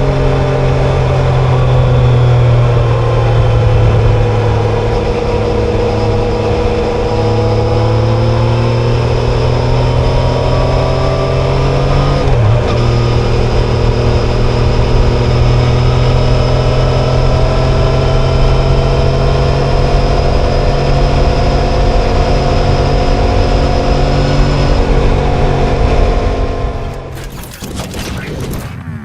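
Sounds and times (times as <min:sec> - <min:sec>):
motorcycle engine running: 0:00.0 - 0:27.7.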